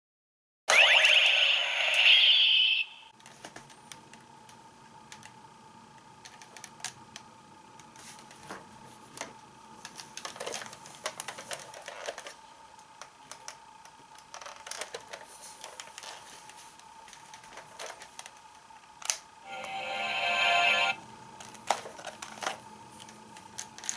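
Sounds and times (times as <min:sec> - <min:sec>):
faint steady hum: 0:00.7 - 0:23.9.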